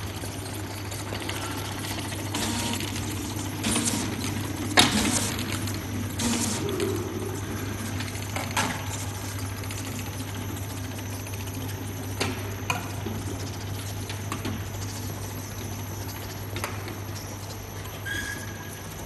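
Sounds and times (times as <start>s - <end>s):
machine motor hum and whir: 0.0s - 19.0s.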